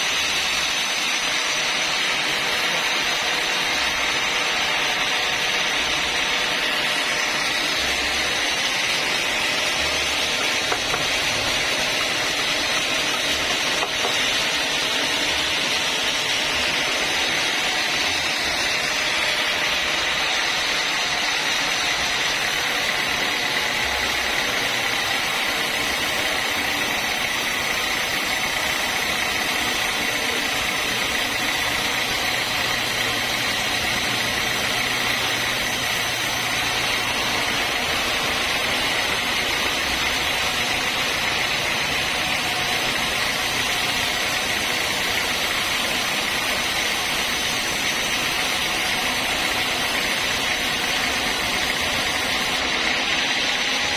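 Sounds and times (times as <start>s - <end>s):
sawmill saw cutting timber: 0.0s - 53.9s.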